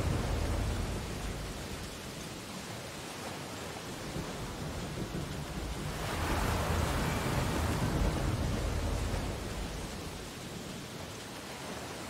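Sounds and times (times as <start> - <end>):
waves washing ashore: 0.0 - 12.0.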